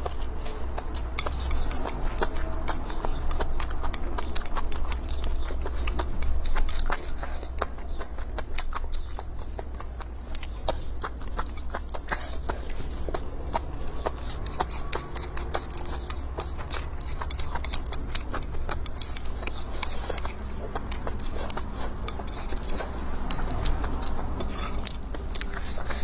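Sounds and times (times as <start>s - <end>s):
chewing and lip smacks: 0.0s - 26.0s
chopsticks clicking against bowl: 0.0s - 26.0s.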